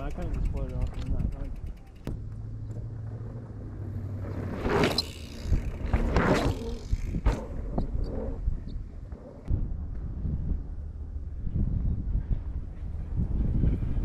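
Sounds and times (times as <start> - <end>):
low wind rumble: 0.0 - 14.0
bike tyres rushing on dirt: 2.5 - 14.0.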